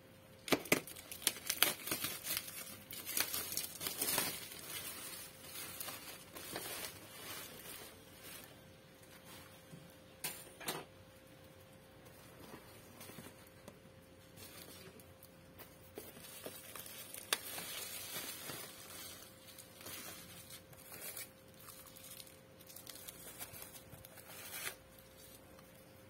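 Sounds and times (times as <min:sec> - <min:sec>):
bubble wrap crinkling: 0:00.4 - 0:09.7, 0:11.6 - 0:26.0.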